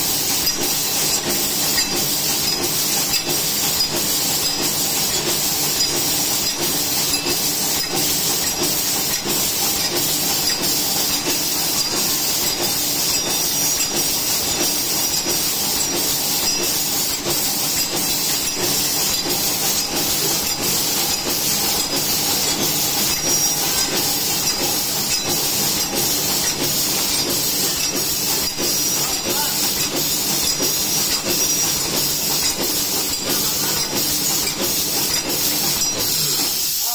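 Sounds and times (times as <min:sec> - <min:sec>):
packaging machine hissing and ticking: 0:00.0 - 0:36.9.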